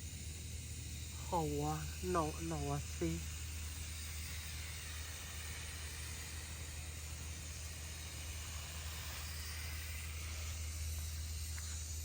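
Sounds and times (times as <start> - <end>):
low hum: 0.0 - 12.0
steady background hiss: 0.0 - 12.0.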